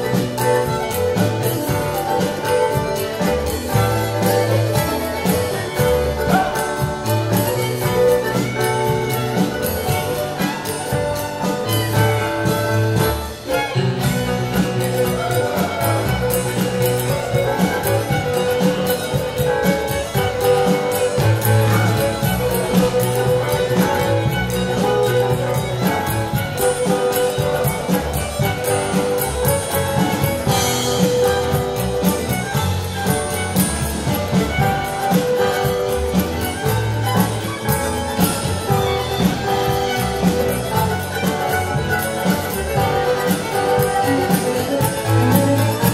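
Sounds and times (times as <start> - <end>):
live dance band playing: 0.0 - 45.9.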